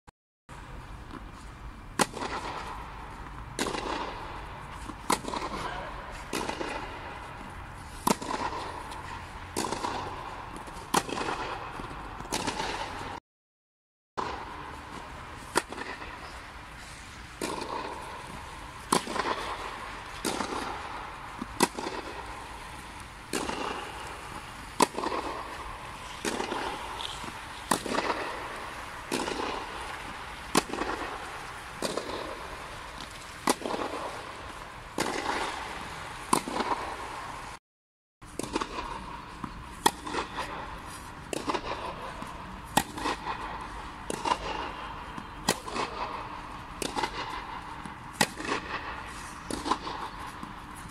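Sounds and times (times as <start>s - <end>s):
racket hitting tennis ball: 1.1s - 13.2s, 14.2s - 37.5s, 38.2s - 50.9s.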